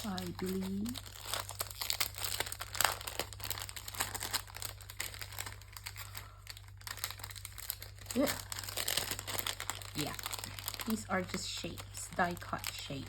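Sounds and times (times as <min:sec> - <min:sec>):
low steady hum: 0:00.0 - 0:13.0
plastic packet crinkling: 0:00.0 - 0:13.0.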